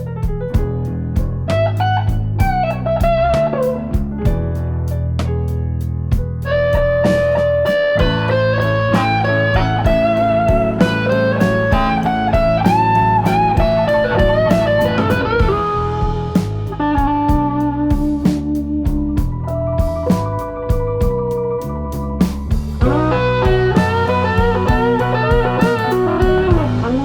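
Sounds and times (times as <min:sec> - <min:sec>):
guitar melody: 0:00.0 - 0:27.0
low bass line: 0:00.0 - 0:27.0
steady beat: 0:00.0 - 0:27.0.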